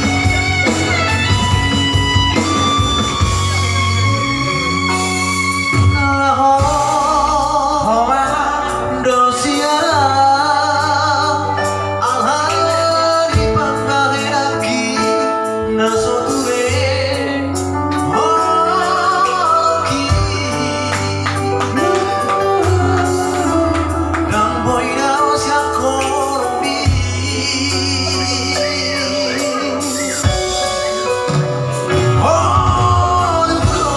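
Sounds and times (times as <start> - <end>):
instrumental accompaniment: 0.0 - 33.9
person singing with vibrato: 3.2 - 33.9.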